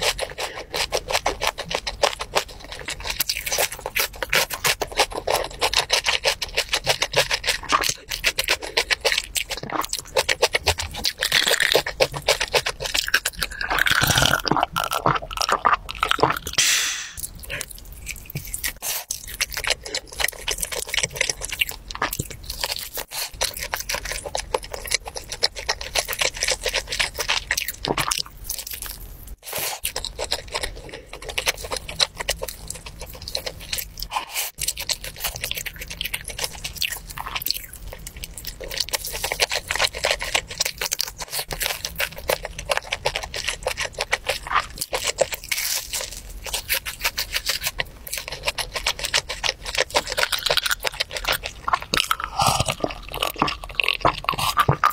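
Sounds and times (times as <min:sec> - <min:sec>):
wet crunchy chewing: 0:00.0 - 0:54.9.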